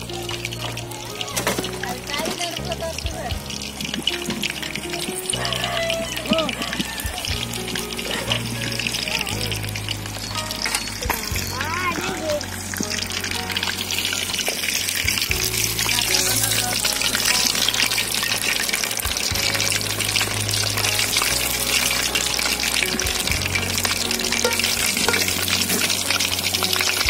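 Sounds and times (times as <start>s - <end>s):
background music: 0.0s - 27.0s
chicken sizzling in oil: 0.0s - 27.0s.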